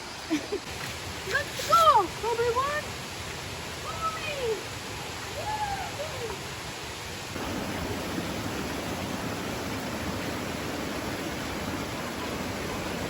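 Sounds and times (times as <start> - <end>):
waterfall rushing: 0.1 - 13.0.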